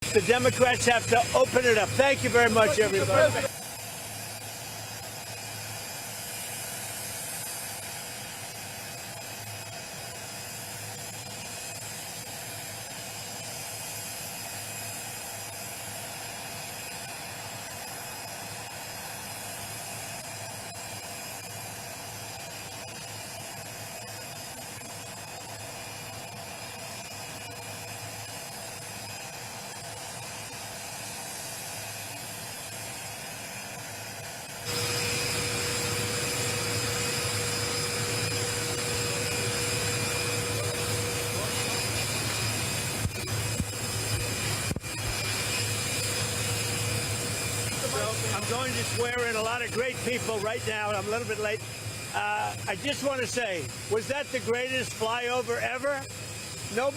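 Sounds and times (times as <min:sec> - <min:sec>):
jet engine idling: 0:00.0 - 0:56.9.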